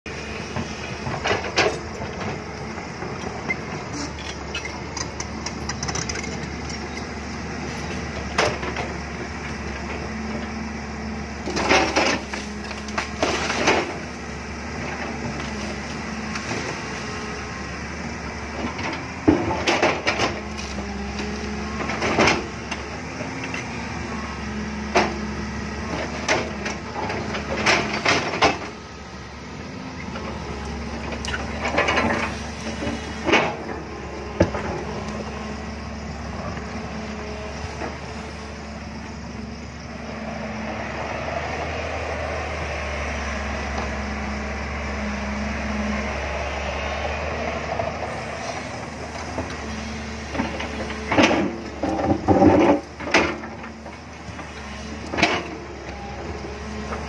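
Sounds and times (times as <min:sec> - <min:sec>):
excavator diesel engine running: 0:00.1 - 0:57.0.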